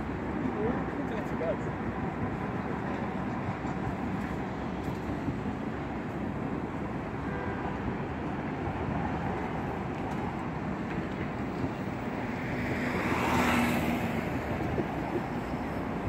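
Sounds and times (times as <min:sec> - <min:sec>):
cars and vans passing: 0:00.0 - 0:16.0.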